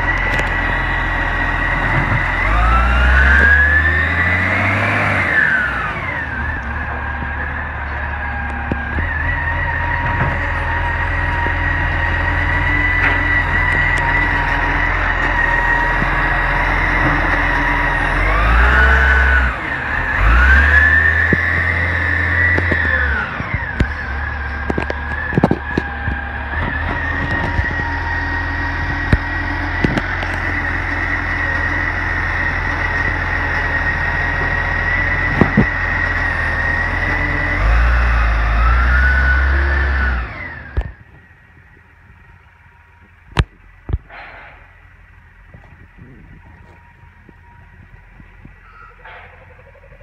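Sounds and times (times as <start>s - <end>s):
garbage truck engine revving: 0.0s - 41.0s.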